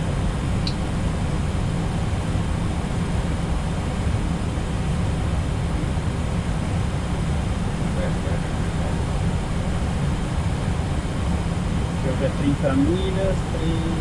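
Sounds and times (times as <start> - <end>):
airflow and engine noise: 0.0 - 14.0.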